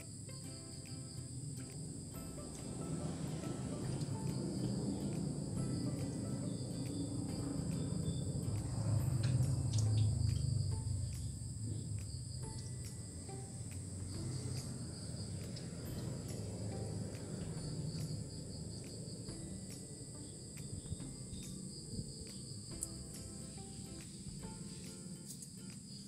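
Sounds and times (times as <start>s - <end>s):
crickets chirring: 0.0s - 26.0s
low rumble: 1.3s - 24.7s.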